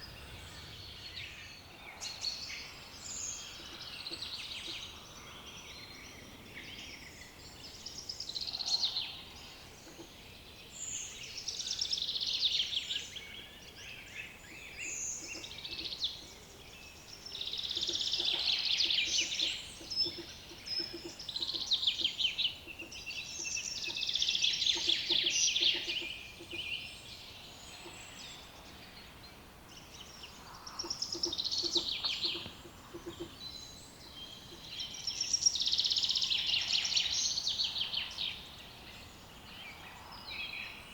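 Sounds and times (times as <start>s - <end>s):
songbirds singing trilled phrases: 0.0s - 40.9s.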